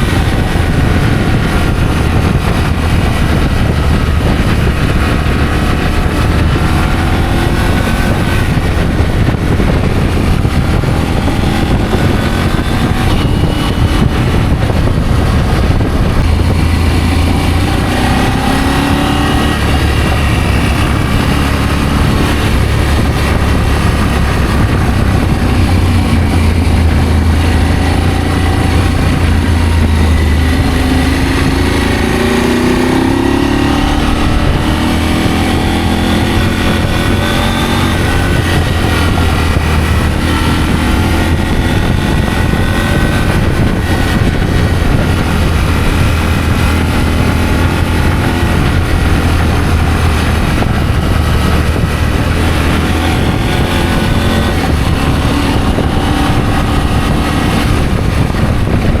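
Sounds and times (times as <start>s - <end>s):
motorcycle engine running: 0.0s - 59.0s
wind rushing on microphone: 0.0s - 59.0s.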